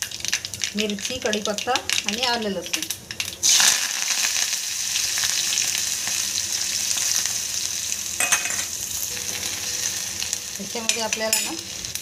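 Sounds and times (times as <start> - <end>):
food sizzling in hot oil: 0.0 - 12.0
oil crackling: 0.0 - 12.0.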